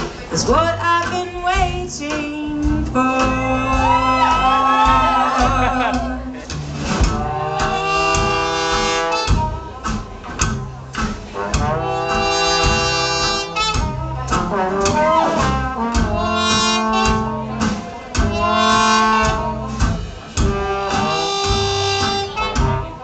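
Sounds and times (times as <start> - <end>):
alternating bass notes: 0.0 - 23.0
steady beat: 0.0 - 23.0.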